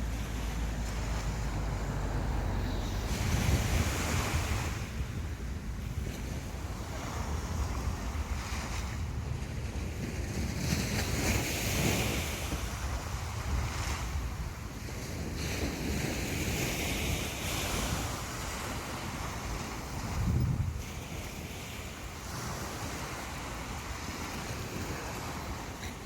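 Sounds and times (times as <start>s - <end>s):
sea waves breaking: 0.0s - 26.0s
wind buffeting microphone: 0.0s - 26.0s.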